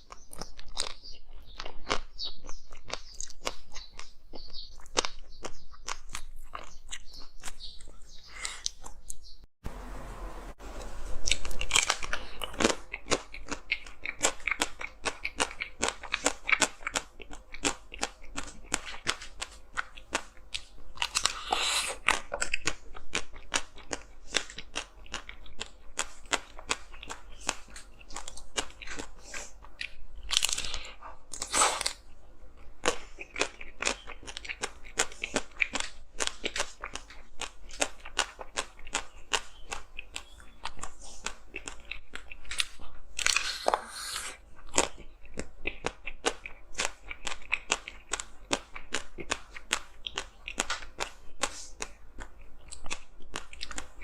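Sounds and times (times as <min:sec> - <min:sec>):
chewing crunchy ice: 0:00.0 - 0:09.3, 0:11.2 - 0:54.0.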